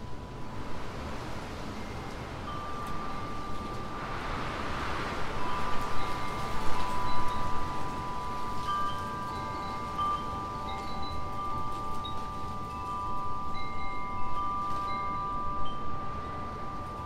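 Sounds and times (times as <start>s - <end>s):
wind chimes ringing: 1.8s - 4.1s, 5.3s - 17.0s.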